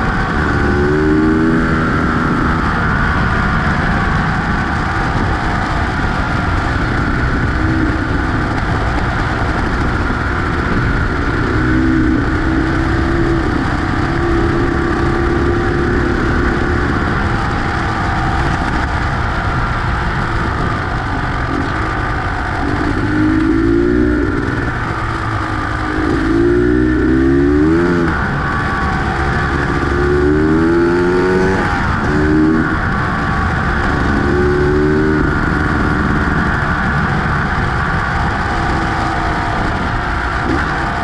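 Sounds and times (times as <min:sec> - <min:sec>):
heavy rushing noise: 0:00.0 - 0:41.0
two-stroke motorcycle engine: 0:00.0 - 0:41.0.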